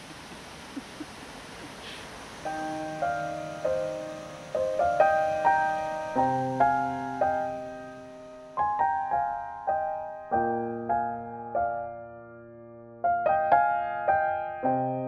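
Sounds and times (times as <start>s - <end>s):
soft piano music: 2.4s - 15.0s.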